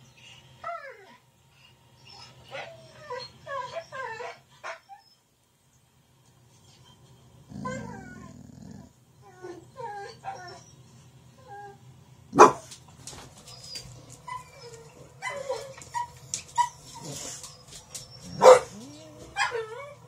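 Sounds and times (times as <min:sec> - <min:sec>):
dogs whining and yipping: 0:00.3 - 0:05.2, 0:06.6 - 0:11.8, 0:13.2 - 0:20.0.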